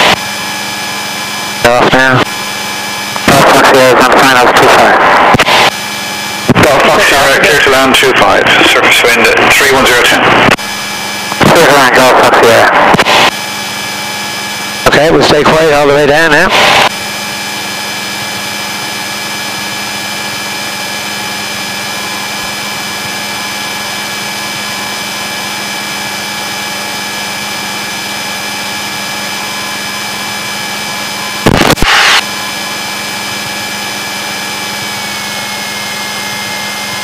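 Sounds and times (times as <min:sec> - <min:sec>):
airplane engine drone in cabin: 0:00.0 - 0:37.0.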